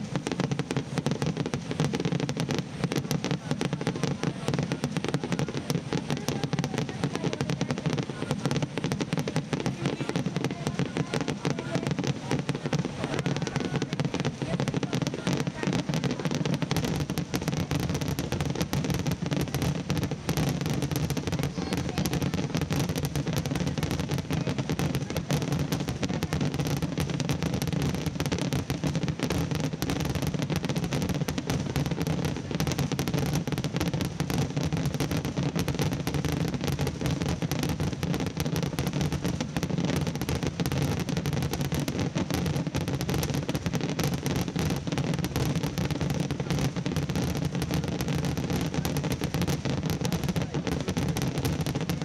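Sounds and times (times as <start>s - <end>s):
fireworks crackling barrage: 0.0s - 52.0s.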